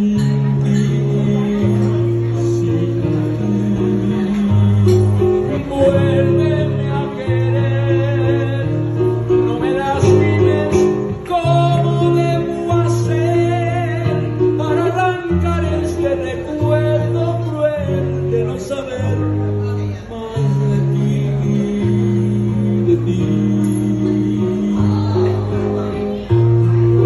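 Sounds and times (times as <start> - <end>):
acoustic guitar strummed: 0.0 - 27.0
man singing: 0.0 - 27.0.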